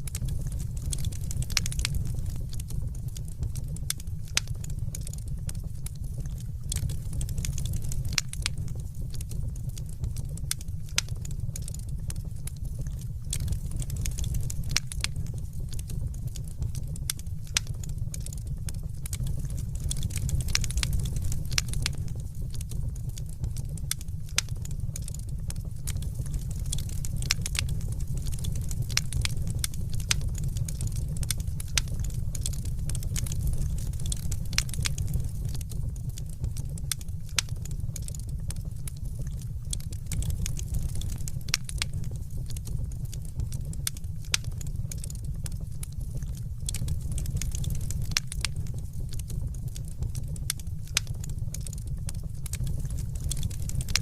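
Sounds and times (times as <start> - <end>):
fire crackling and popping: 0.0 - 54.0
fire rumbling: 0.0 - 54.0.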